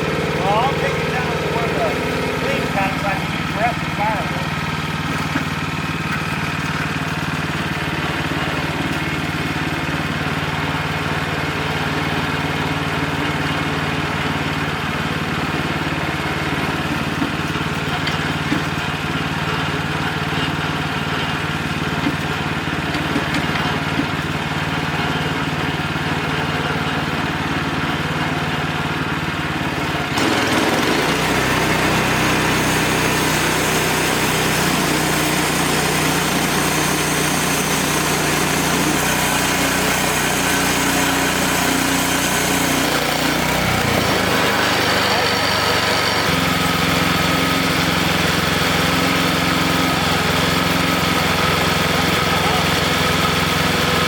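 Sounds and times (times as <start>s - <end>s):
band sawmill running: 0.0s - 54.0s.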